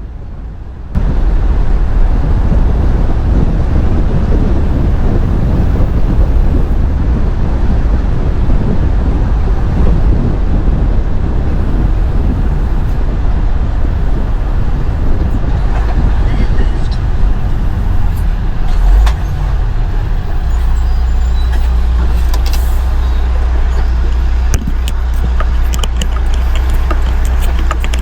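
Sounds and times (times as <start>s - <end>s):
moving truck rumble: 0.0s - 28.0s.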